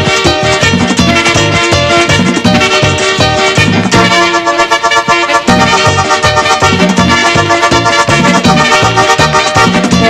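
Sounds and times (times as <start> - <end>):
fast dance beat: 0.0 - 10.0
saxophones: 0.0 - 10.0
trombone: 0.0 - 10.0.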